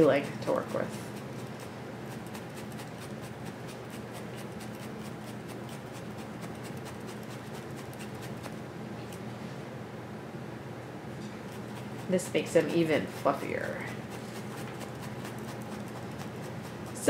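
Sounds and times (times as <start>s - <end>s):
felting needles stabbing wool: 0.0s - 8.6s, 11.5s - 17.0s.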